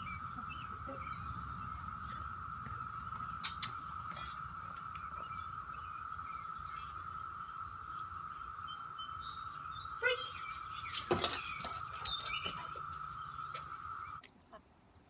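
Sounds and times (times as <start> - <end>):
faint bird chirps: 0.0 - 14.6.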